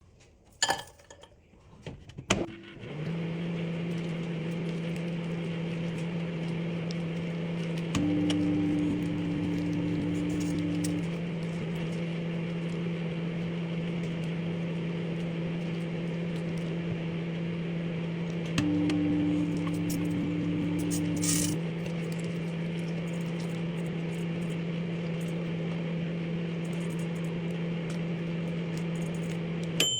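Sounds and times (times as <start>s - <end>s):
microwave oven humming: 2.2s - 29.9s.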